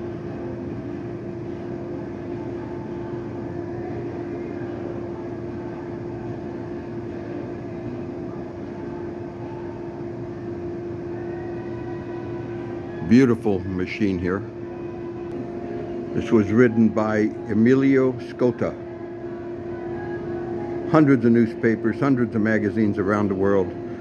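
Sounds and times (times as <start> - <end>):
mechanical hum with pitched tone: 0.0 - 24.0.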